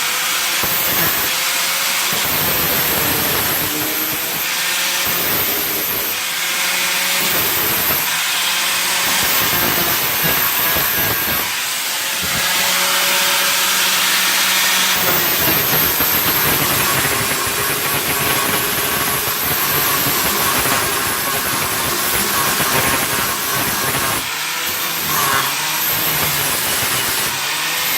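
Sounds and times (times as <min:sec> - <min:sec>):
power tool hissing: 0:00.0 - 0:27.9
power tool motor hum: 0:00.0 - 0:27.9.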